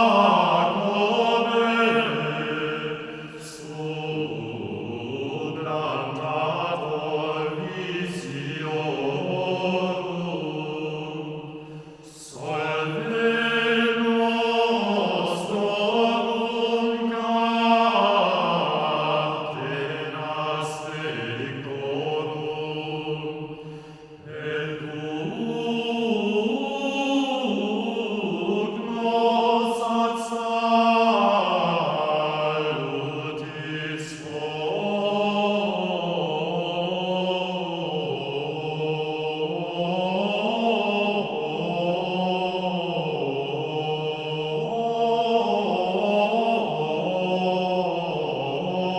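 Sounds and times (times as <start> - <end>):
chanting voices: 0.0 - 48.9.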